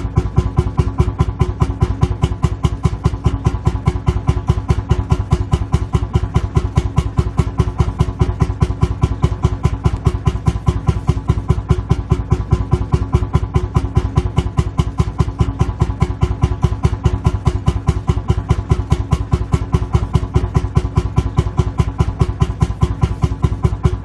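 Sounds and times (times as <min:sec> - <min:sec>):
engine idling with thumping beat: 0:00.0 - 0:24.0.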